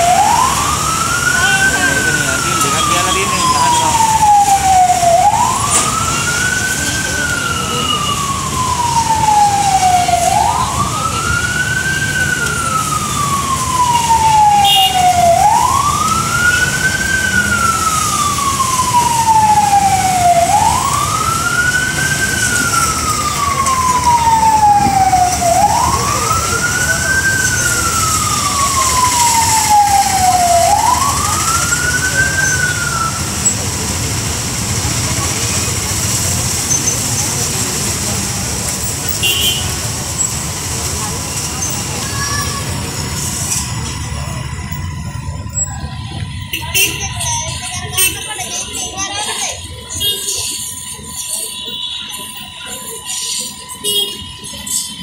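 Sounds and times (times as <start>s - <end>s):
fire engine siren wailing: 0.0s - 55.0s.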